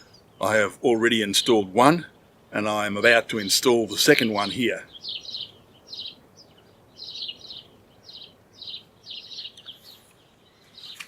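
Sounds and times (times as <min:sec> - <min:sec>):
bird chirping trills: 0:00.0 - 0:11.0.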